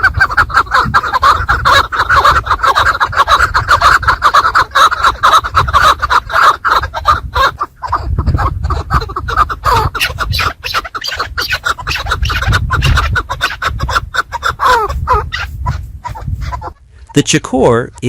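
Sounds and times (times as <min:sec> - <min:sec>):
partridge calling: 0:00.0 - 0:18.0.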